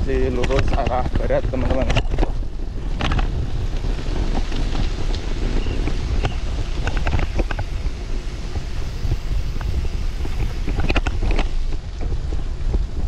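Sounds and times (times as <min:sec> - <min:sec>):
sharp clicks and rattles: 0:00.0 - 0:07.9, 0:08.5 - 0:13.0
wind buffeting microphone: 0:00.0 - 0:13.0.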